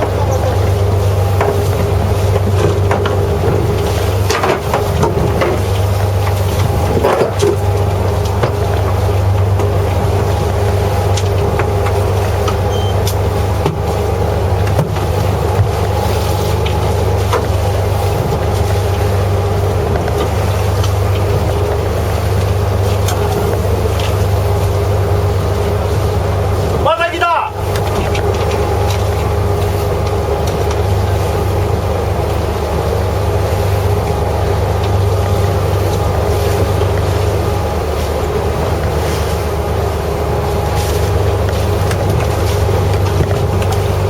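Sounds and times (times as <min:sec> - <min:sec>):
boat engine humming: 0:00.0 - 0:44.0.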